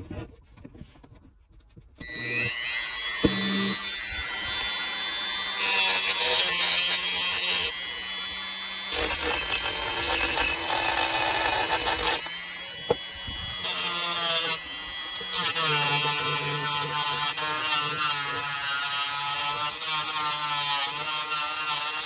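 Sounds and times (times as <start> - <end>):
rotary tool whining: 0.0 - 22.0.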